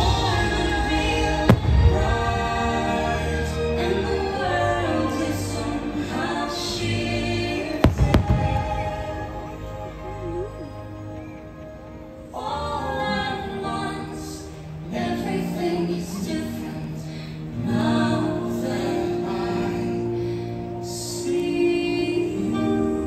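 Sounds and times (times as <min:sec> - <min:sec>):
woman singing: 0:00.0 - 0:10.6, 0:12.3 - 0:23.0
orchestral show music: 0:00.0 - 0:23.0.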